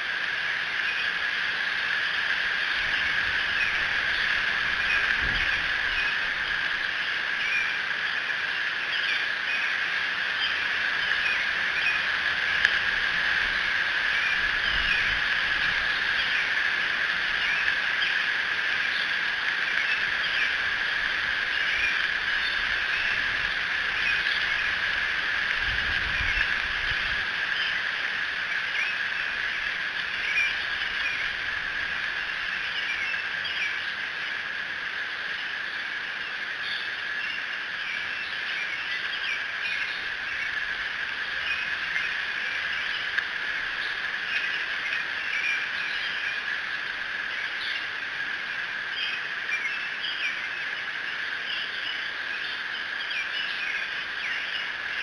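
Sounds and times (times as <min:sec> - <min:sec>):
frogs and insects chirping: 0:00.0 - 0:55.0.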